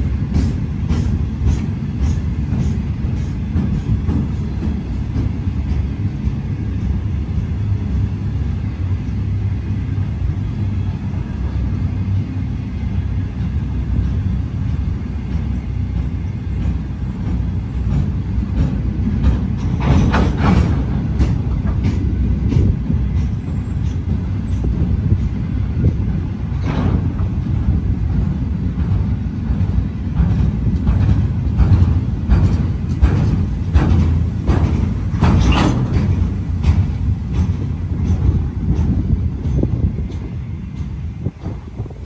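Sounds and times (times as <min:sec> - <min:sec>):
train wagons clattering: 0:00.0 - 0:42.0
train wheels rumbling on rail: 0:00.0 - 0:42.0.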